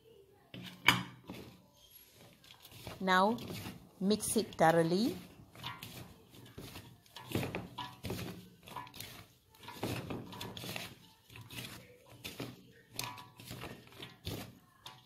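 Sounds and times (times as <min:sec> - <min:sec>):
hand mixing flour in metal bowl: 0:00.5 - 0:15.0.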